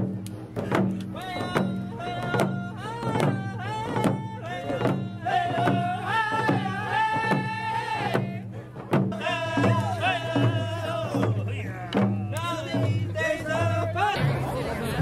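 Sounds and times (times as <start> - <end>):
frame drum beat: 0.0 - 14.1.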